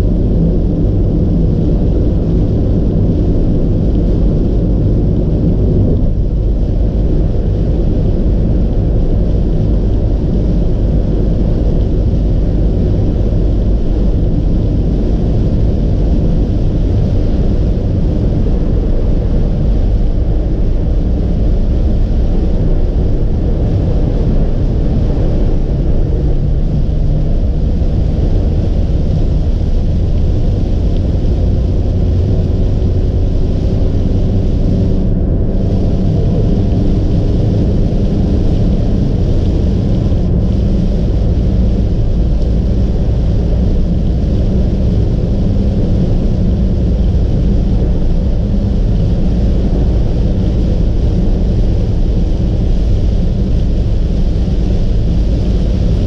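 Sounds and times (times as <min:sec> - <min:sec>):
tyre and engine rumble: 0:00.0 - 0:56.0.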